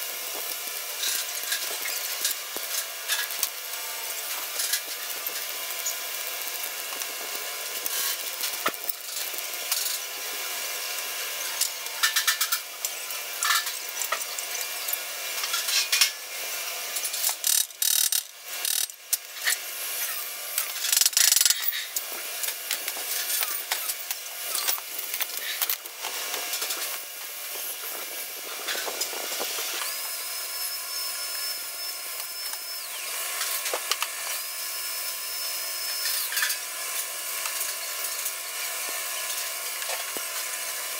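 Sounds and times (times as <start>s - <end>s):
steady high whine: 0.0s - 40.5s
welding crackling and scraping: 0.0s - 40.9s.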